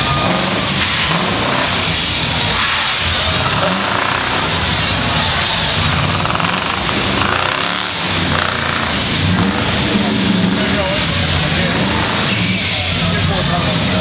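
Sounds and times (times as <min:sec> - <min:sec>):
off-road truck engine running: 0:00.0 - 0:14.0.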